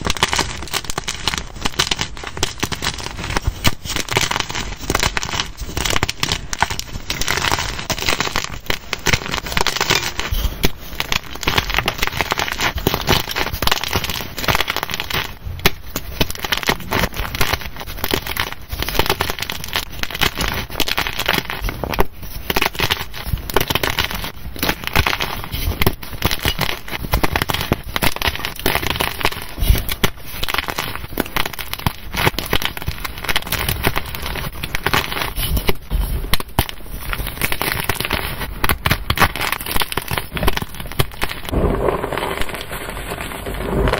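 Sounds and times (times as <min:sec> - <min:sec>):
chalk crunching and crackling: 0:00.0 - 0:43.9.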